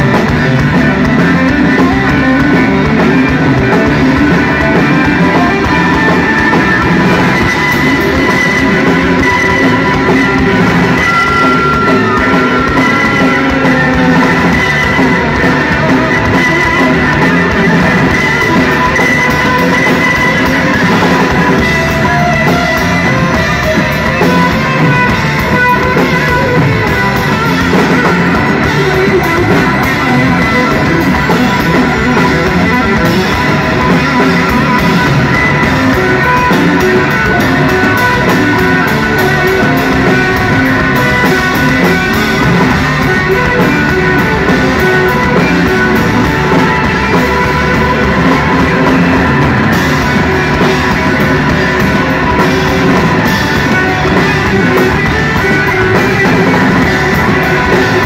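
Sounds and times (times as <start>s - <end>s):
drum kit: 0.0s - 58.0s
electric bass guitar: 0.0s - 58.0s
electric guitar: 0.0s - 58.0s
keyboards: 0.0s - 58.0s.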